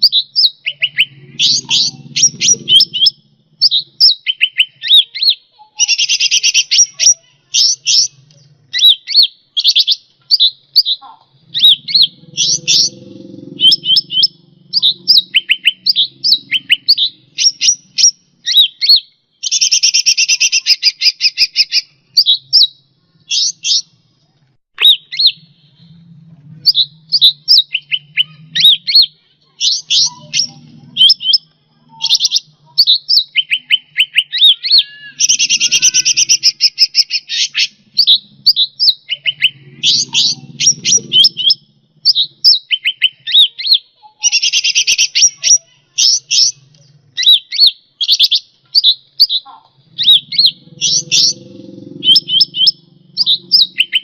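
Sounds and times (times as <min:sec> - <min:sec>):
songbird chirping and whistling: 0:00.0 - 0:54.0.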